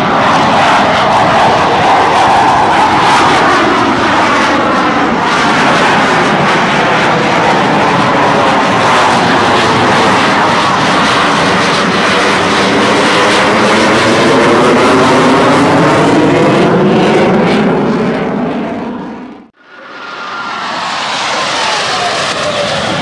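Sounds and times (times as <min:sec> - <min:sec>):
jet aircraft roaring past: 0:00.0 - 0:23.0.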